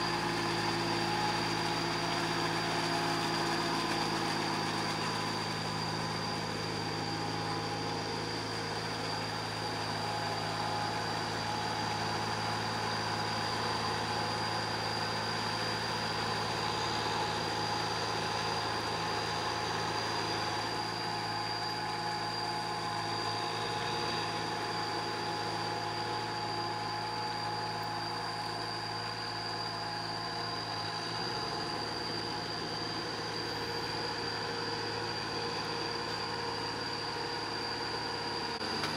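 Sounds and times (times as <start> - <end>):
steady high-pitched tone: 0.0 - 38.9
tractor engine running: 0.0 - 38.9.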